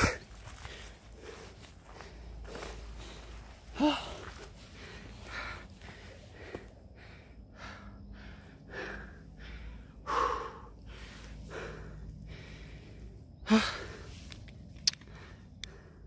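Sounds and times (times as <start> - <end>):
person breathing heavily: 0.0 - 16.0.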